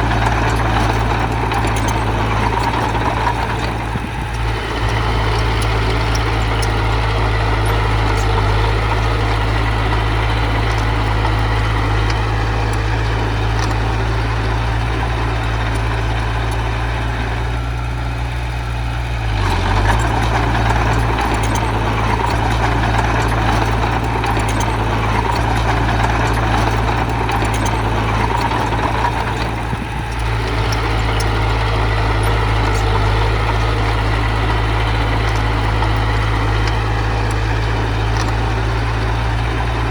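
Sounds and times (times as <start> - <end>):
heavy diesel engine droning: 0.0 - 39.9.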